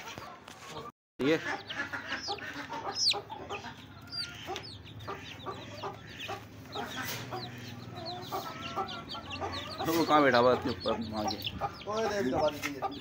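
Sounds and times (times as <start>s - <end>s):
chick peeping: 0.0s - 13.0s
lower clucking calls: 1.2s - 13.0s.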